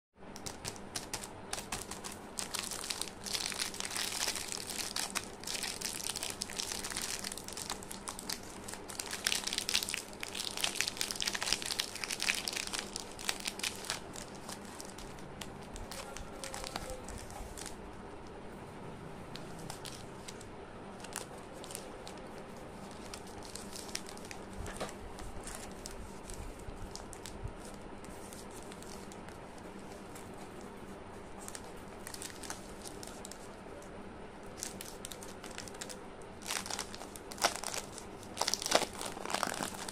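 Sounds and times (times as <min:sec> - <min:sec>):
plastic wrappers crinkling: 0:00.4 - 0:17.8, 0:19.3 - 0:30.7, 0:31.4 - 0:33.6, 0:34.4 - 0:39.9.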